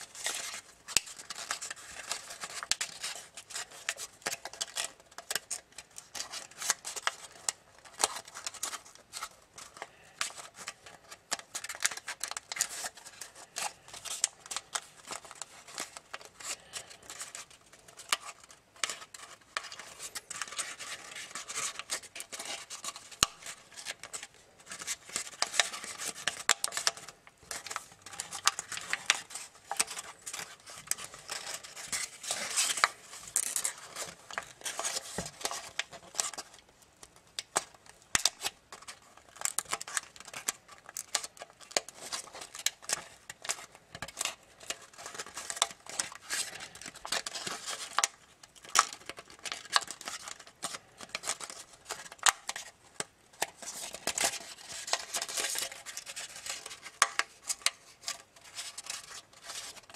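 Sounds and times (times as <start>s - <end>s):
foil paper crinkling: 0.0s - 59.9s.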